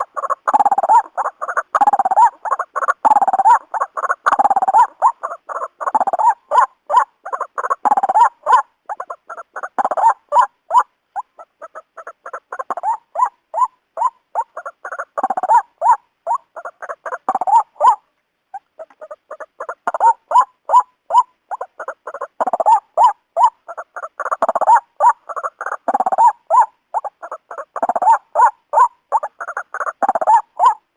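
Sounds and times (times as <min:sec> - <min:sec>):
bird calling repeated notes: 0:00.0 - 0:30.9.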